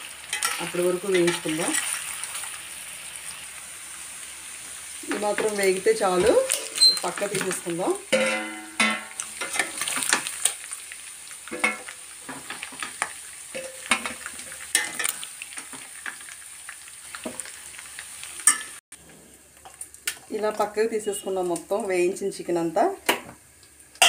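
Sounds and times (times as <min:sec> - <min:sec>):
chicken frying in hot oil: 0:00.0 - 0:24.0.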